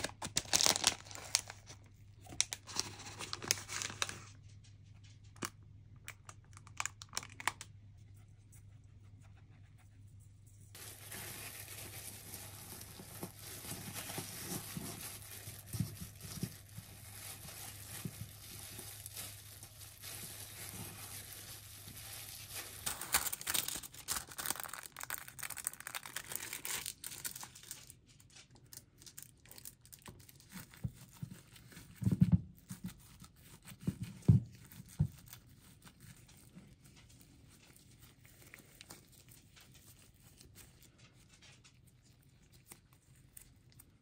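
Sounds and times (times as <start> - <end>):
crinkling handling sounds: 0.0 - 9.8, 10.5 - 44.0.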